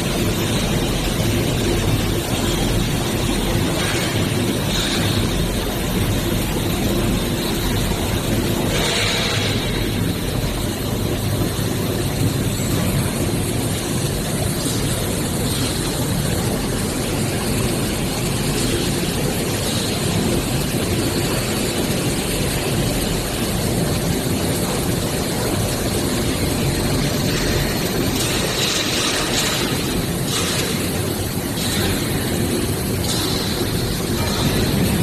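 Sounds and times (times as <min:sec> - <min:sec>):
hydraulic baler running: 0:00.0 - 0:35.0.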